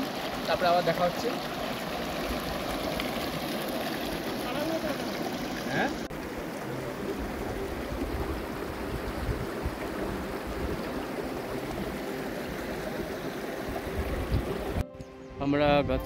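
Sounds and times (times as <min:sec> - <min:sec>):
stream rushing over rocks: 0:00.0 - 0:14.8.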